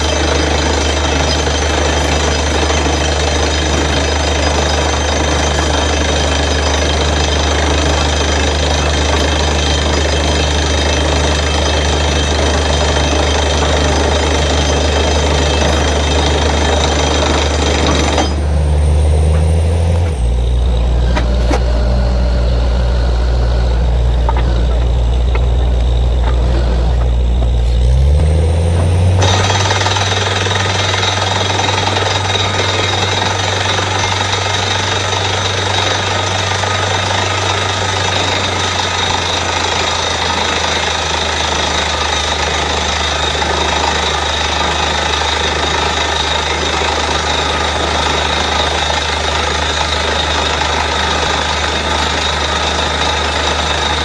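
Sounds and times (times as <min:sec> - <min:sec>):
drilling rig engine droning: 0:00.0 - 0:54.0
hammer drilling: 0:00.0 - 0:54.0.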